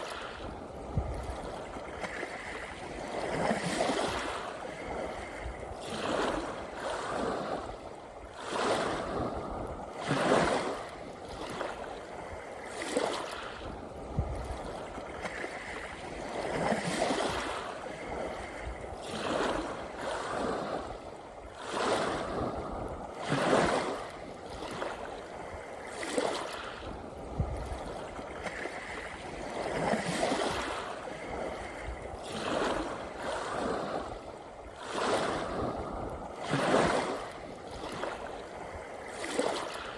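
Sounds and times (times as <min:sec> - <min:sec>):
sea waves washing on beach: 0:00.0 - 0:39.9.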